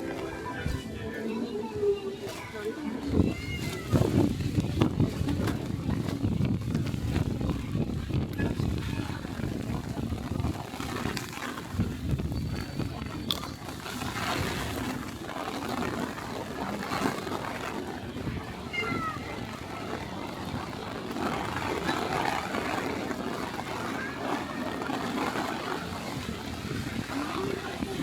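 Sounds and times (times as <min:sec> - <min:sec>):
street noise: 0:00.0 - 0:28.0.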